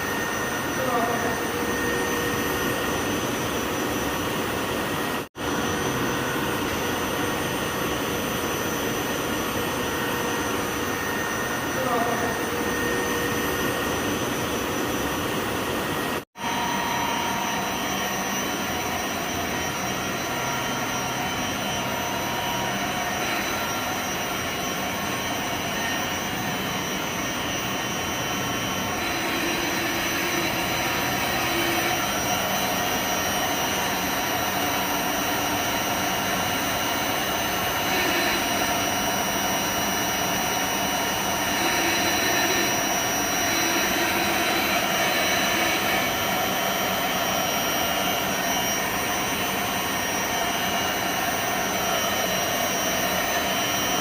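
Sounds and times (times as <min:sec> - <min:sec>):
pump whirring with high whine: 0:00.0 - 0:54.0.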